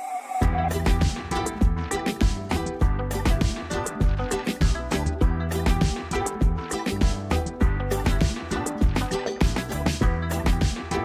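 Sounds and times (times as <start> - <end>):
background music with a beat: 0.0 - 11.0.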